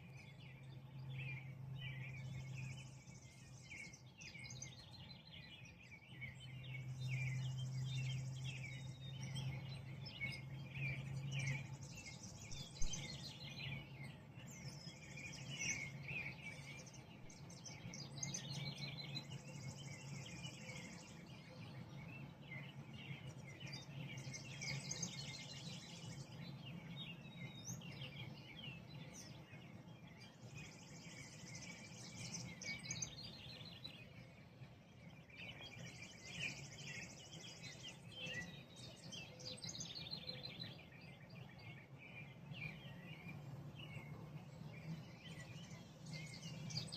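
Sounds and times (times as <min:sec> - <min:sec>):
birds chirping and singing: 0:00.0 - 0:46.9
low steady hum: 0:00.0 - 0:46.9.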